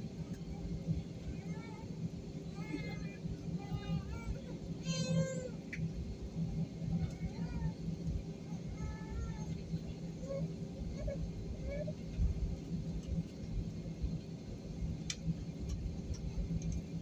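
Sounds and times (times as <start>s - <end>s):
airliner cabin rumble: 0.0s - 17.0s
jet engines idling: 0.0s - 17.0s.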